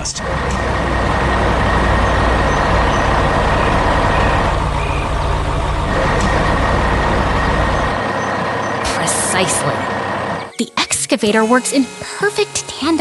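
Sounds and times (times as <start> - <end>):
high steady whine: 0.0 - 10.5
heavy machine engine rumbling: 0.0 - 13.0.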